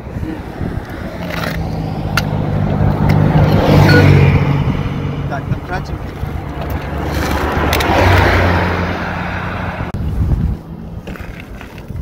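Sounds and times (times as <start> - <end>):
car passing on road: 0.0 - 11.7.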